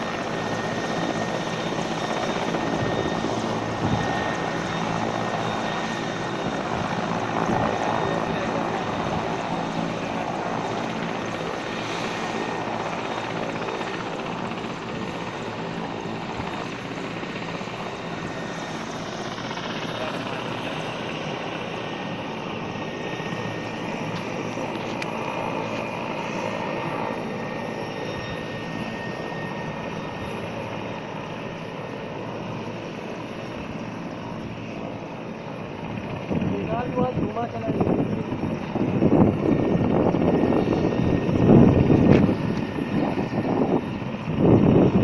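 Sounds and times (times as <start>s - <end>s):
helicopter rotors and turbine engines: 0.0s - 45.0s.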